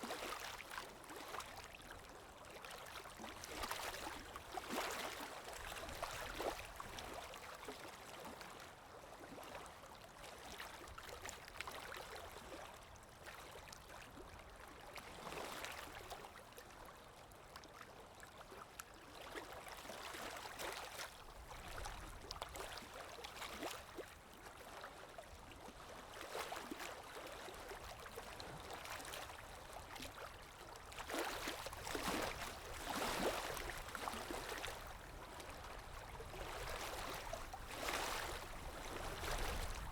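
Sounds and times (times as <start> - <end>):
river water lapping and gurgling: 0.0 - 39.9.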